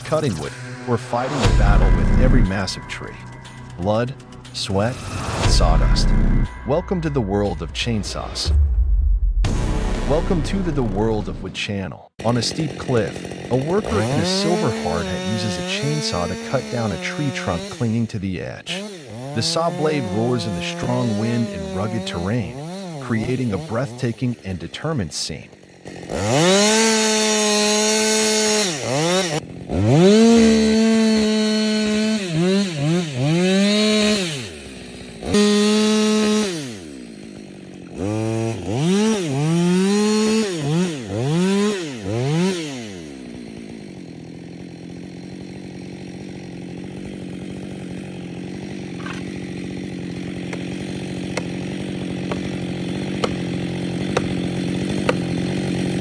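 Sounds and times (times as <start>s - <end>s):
chainsaw cutting: 0.0s - 6.7s, 9.5s - 56.0s.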